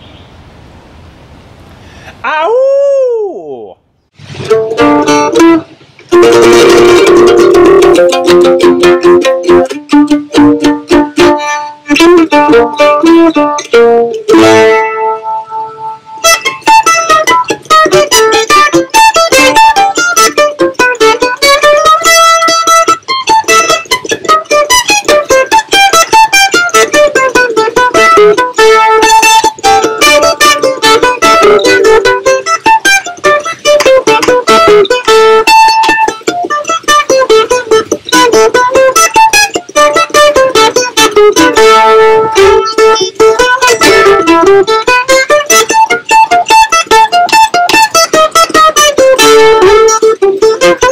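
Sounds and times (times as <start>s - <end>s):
mandolin picked runs: 4.1s - 50.9s.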